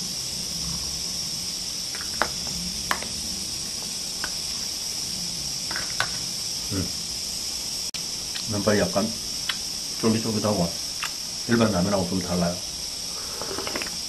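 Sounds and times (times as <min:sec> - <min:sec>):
steady high-pitched hiss: 0:00.0 - 0:14.0.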